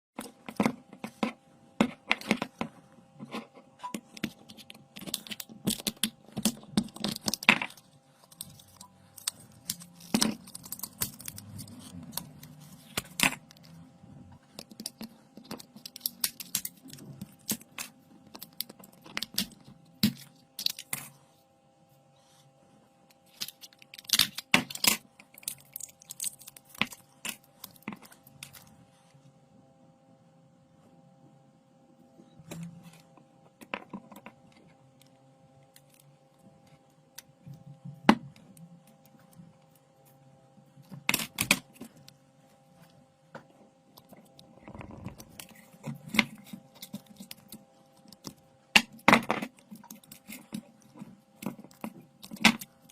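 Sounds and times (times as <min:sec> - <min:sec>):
faint steady hum: 0:00.2 - 0:52.9.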